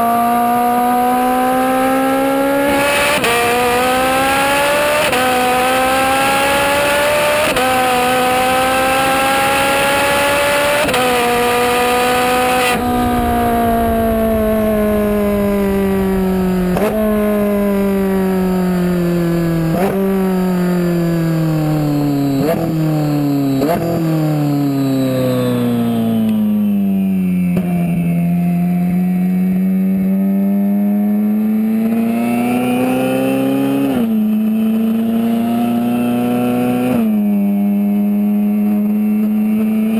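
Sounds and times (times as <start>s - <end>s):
engine rev blips on downshifts: 0.0s - 39.9s
sports car engine accelerating: 0.0s - 39.9s.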